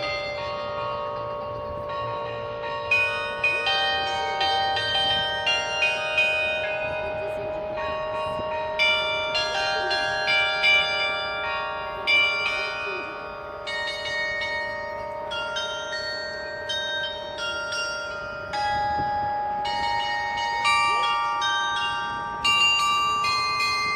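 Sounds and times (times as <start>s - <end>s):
carillon bells playing melody: 0.0s - 23.9s
sustained low bell: 0.0s - 23.9s.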